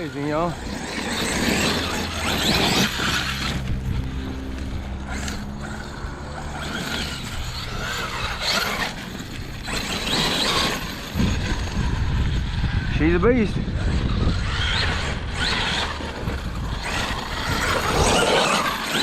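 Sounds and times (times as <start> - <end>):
electric motor and drivetrain: 0.0 - 19.0
rushing tyre noise: 0.0 - 19.0.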